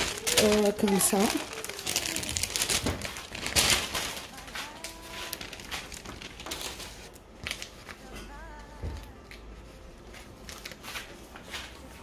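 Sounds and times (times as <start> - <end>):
paper bags rustling and crinkling: 0.0 - 12.0.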